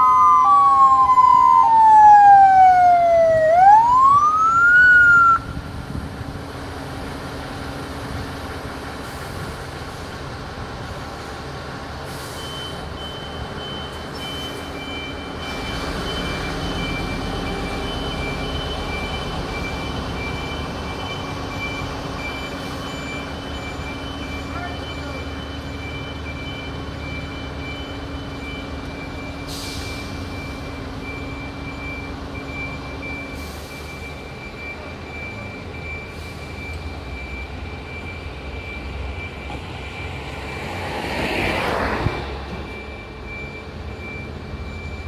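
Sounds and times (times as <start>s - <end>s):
fire engine sirens wailing: 0.0s - 6.4s, 13.9s - 45.0s
fire truck engines running: 0.0s - 45.0s.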